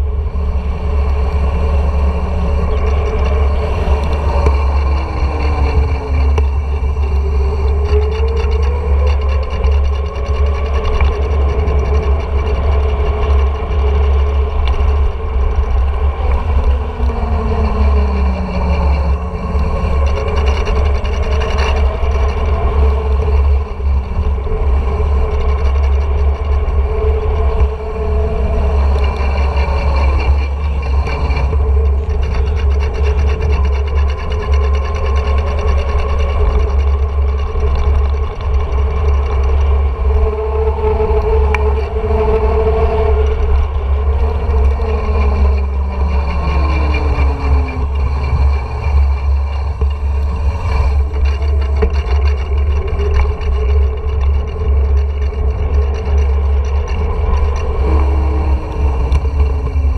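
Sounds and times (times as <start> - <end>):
bike tyres rolling on asphalt: 0.0 - 59.9
faint whine sliding in pitch: 0.0 - 59.9.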